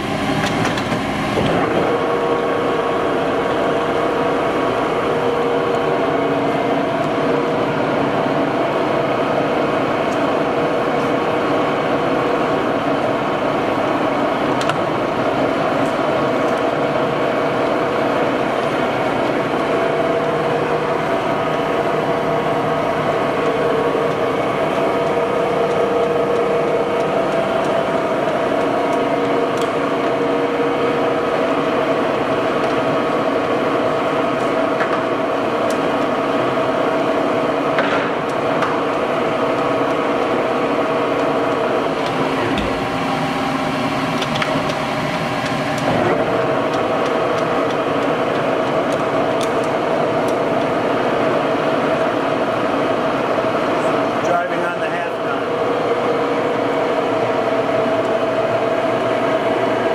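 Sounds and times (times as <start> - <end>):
lathe humming with a whine: 0.0 - 59.9.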